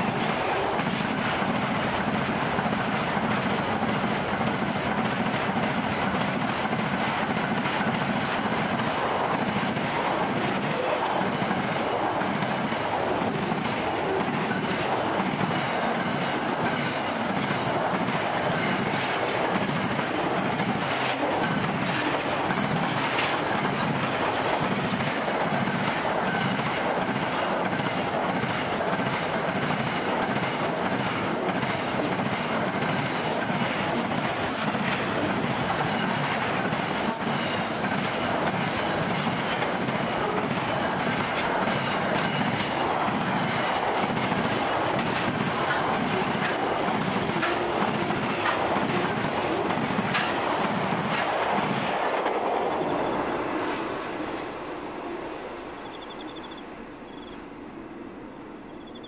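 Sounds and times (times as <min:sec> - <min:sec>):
rhythmic clatter of wheels: 0:00.0 - 0:52.4
steel wheels rumbling on rail: 0:00.0 - 0:59.0.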